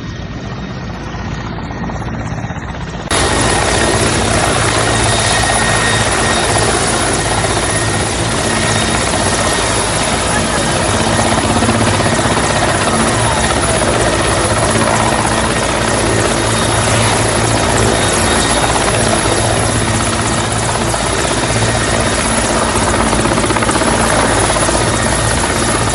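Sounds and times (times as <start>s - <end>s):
helicopter turbine noise: 0.0s - 25.9s
pulsing helicopter rotor beat: 0.0s - 25.9s.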